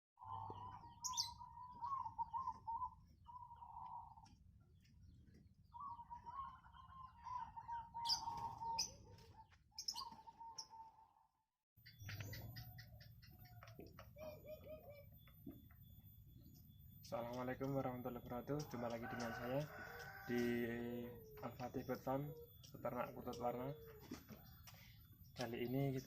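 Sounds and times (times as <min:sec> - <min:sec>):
doves cooing: 0:00.2 - 0:11.3, 0:11.9 - 0:16.0, 0:17.1 - 0:26.0.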